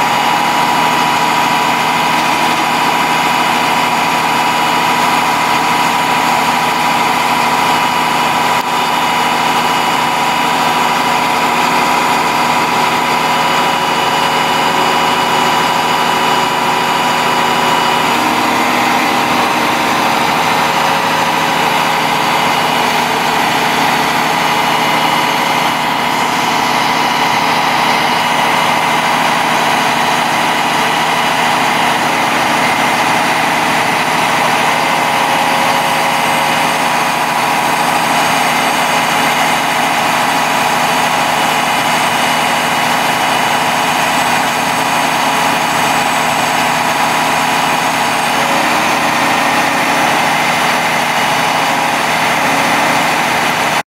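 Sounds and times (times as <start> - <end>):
diesel truck engine idling: 0.0 - 53.8.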